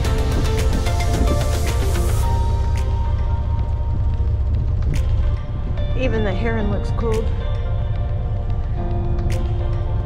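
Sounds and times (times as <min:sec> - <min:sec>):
deep steady rumble: 0:00.0 - 0:10.0.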